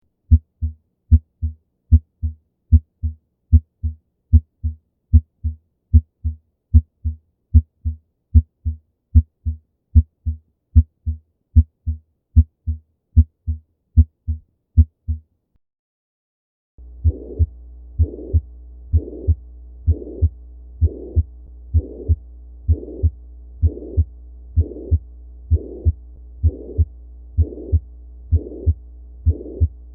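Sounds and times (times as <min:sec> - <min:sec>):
heartbeat: 0:00.3 - 0:15.2, 0:16.8 - 0:29.9.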